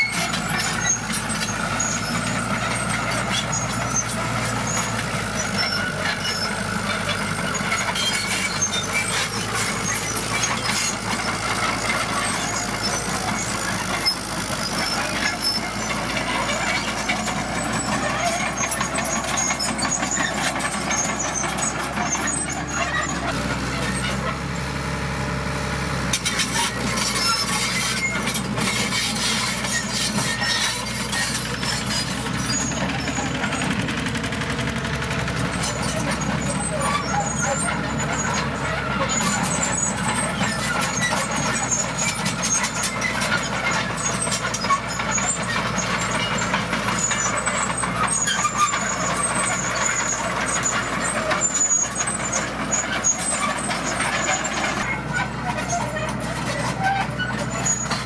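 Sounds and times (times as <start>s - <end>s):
steel tracks and rubble clanking: 0.0s - 24.8s, 26.1s - 58.0s
bulldozer diesel engine under load: 0.0s - 58.0s.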